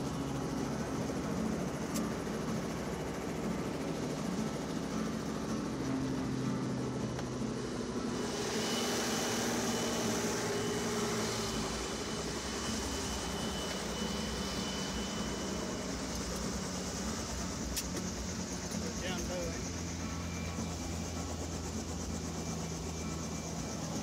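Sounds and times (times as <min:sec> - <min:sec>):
helicopter engine and rotor: 0:00.0 - 0:24.0
high whine: 0:00.0 - 0:24.0.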